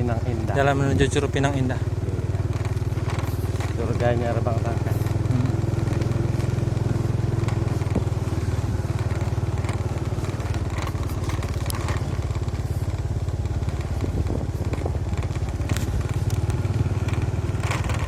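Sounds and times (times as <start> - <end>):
motorcycle engine running: 0.0 - 18.0
small clicks and rattles: 0.0 - 18.0.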